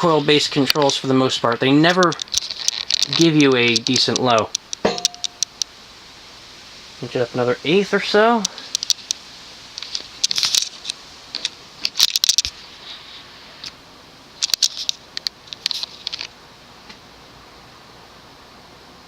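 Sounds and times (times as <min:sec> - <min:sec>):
fan faint hiss: 0:00.0 - 0:19.0.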